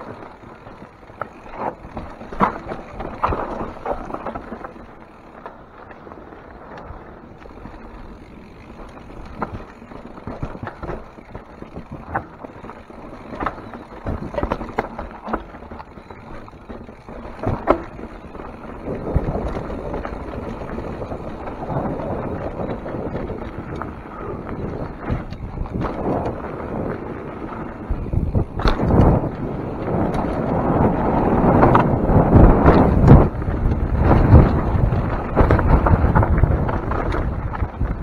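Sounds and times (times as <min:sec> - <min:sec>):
bike clacking over bumps: 0:00.0 - 0:38.0
tyres crunching over dirt and rock: 0:00.0 - 0:38.0.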